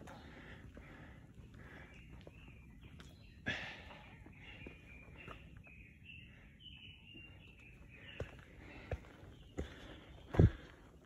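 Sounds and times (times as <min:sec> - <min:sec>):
woodland birds chirping: 0:00.0 - 0:11.0.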